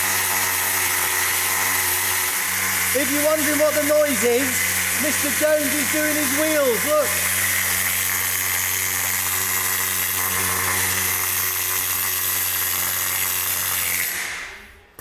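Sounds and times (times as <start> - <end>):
air tool whirring: 0.0 - 15.0.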